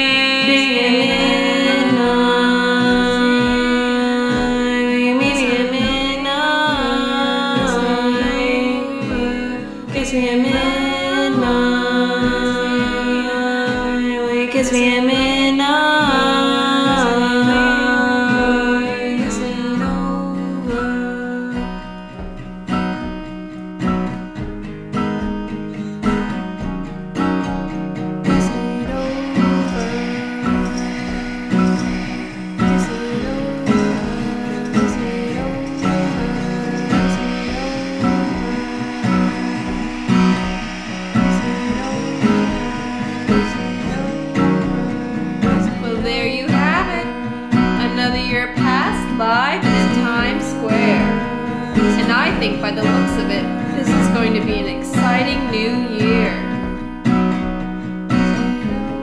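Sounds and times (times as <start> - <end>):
acoustic guitar strumming: 0.0 - 59.0
wordless sung notes: 0.0 - 59.0.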